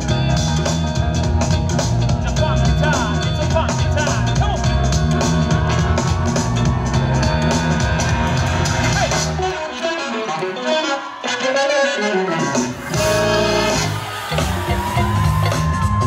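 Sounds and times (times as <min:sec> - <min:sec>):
loud music with drums and bass: 0:00.0 - 0:09.8, 0:12.1 - 0:16.0.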